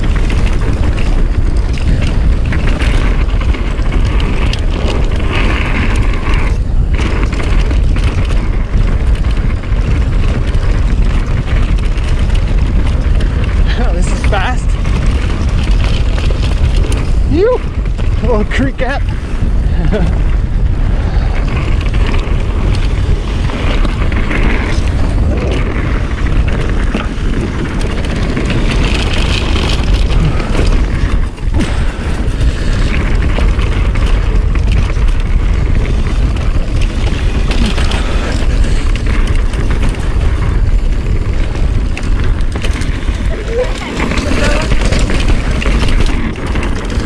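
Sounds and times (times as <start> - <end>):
bike tyre noise: 0.0 - 47.0
wind rushing over microphone: 0.0 - 47.0.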